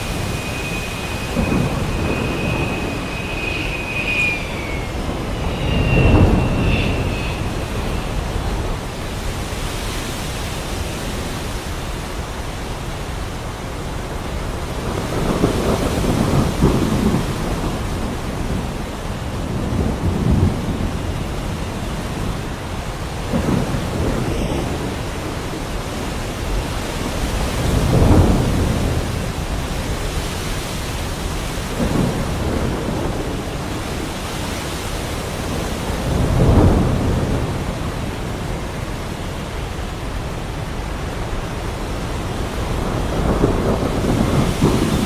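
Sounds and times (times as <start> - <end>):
heavy rain falling: 0.0 - 45.0
thunder rumbling: 0.0 - 45.0.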